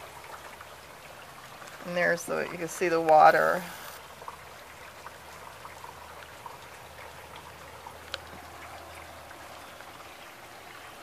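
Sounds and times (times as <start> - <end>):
light rain hiss: 0.0 - 11.0
raindrops ticking: 0.0 - 11.0.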